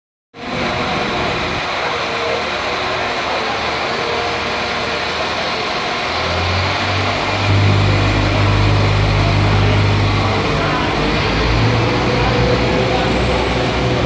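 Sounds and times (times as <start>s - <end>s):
train diesel engine drone: 0.4s - 14.0s.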